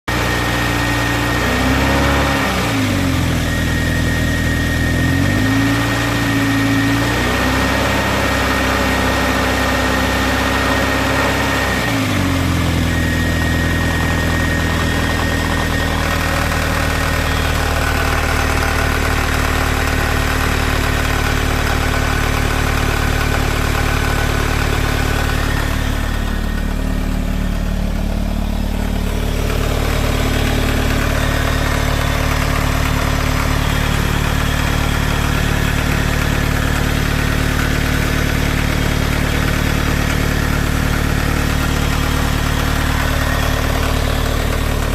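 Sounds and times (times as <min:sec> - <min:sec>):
engine knocking: 0:00.1 - 0:44.9
car engine idling: 0:00.2 - 0:44.9.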